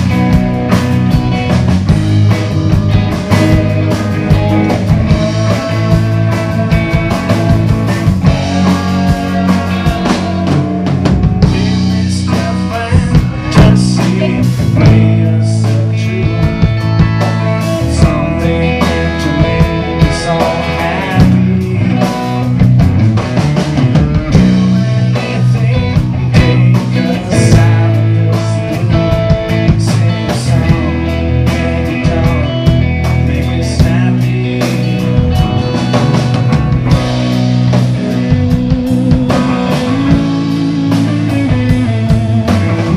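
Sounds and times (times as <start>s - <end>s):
bass line: 0.0s - 42.9s
rock band playing: 0.0s - 42.9s.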